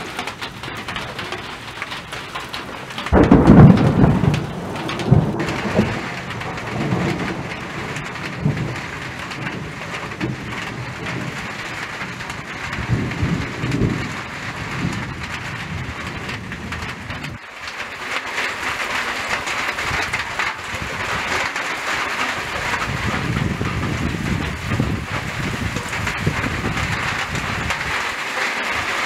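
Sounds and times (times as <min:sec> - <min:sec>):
thunder rumbling: 0:00.0 - 0:17.4, 0:18.6 - 0:29.0
rain and wind in trees: 0:00.0 - 0:29.0.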